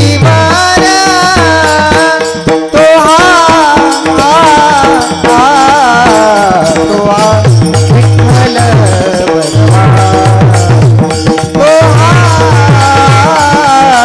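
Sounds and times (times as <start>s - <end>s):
drum strokes: 0.0s - 14.0s
jingling hand cymbals: 0.0s - 14.0s.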